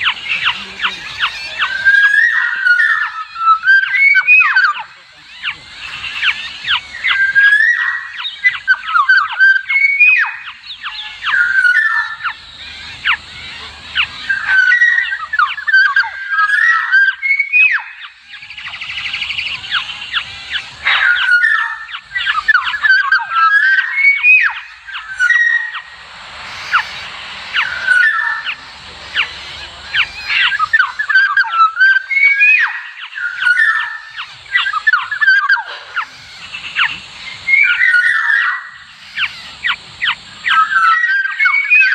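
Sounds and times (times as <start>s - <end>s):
orioles whistling: 0.0s - 41.9s
sharp bird call notes: 0.0s - 41.9s.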